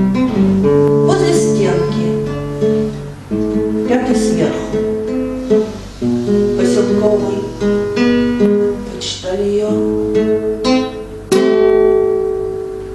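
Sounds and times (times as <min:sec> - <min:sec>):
acoustic guitar: 0:00.0 - 0:12.9.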